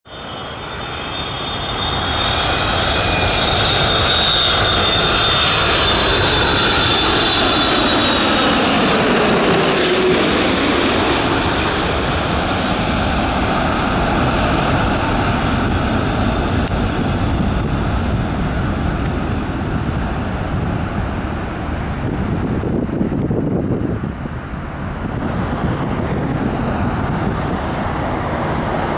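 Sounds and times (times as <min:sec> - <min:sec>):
jet plane passing overhead: 0:00.1 - 0:28.9.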